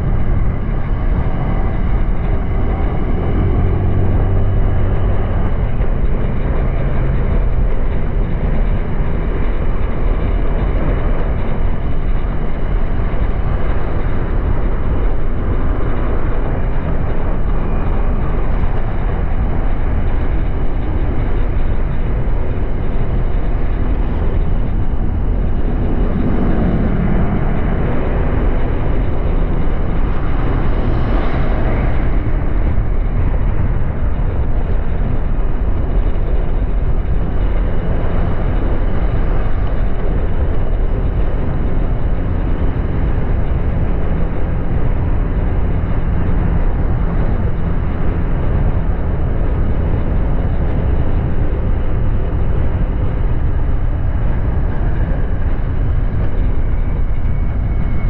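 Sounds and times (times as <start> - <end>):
wind and road rush: 0.0 - 58.0.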